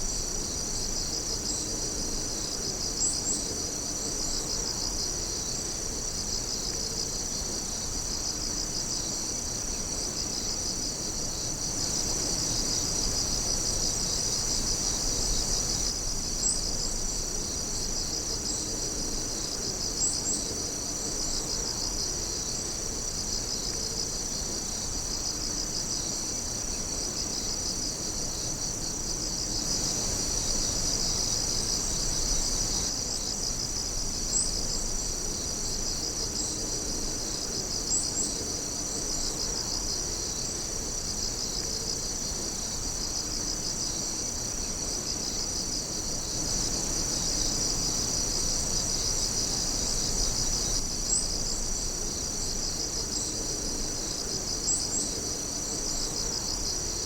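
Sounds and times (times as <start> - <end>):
high insect chirps: 0.0 - 57.0
night insects trilling: 0.0 - 57.0.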